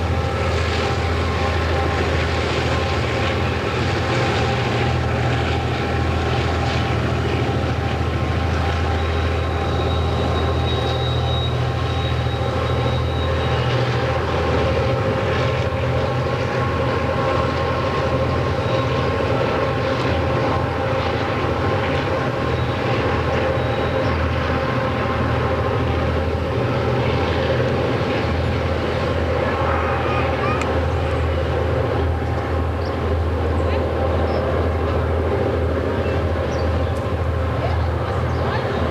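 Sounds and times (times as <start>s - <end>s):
diesel locomotive engines: 0.0s - 38.9s.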